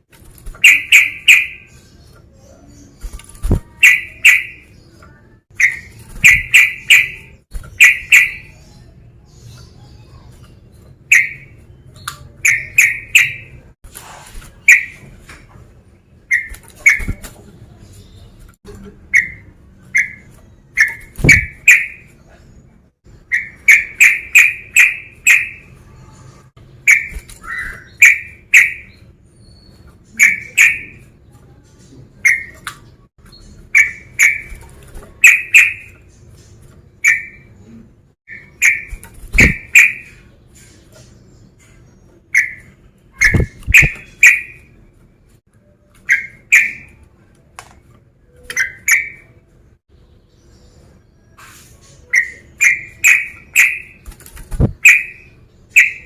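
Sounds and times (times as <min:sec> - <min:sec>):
bulbul singing: 0:00.4 - 0:13.8, 0:14.5 - 0:15.2, 0:16.1 - 0:18.4, 0:19.1 - 0:22.4, 0:23.1 - 0:31.2, 0:32.0 - 0:44.9, 0:46.0 - 0:47.1, 0:48.3 - 0:56.0.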